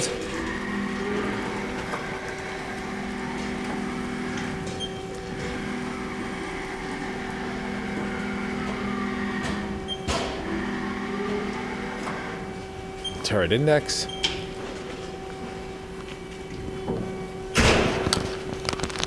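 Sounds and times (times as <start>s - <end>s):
lathe humming: 0.0s - 18.8s.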